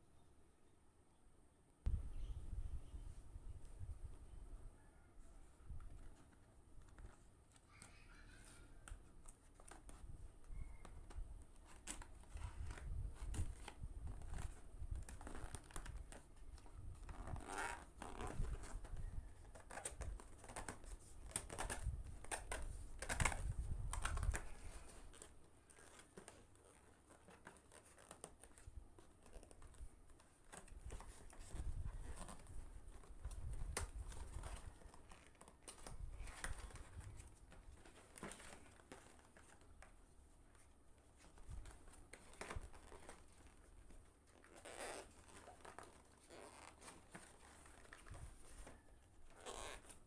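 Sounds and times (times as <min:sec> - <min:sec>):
packaging crinkling and rustling: 0:05.8 - 0:50.0.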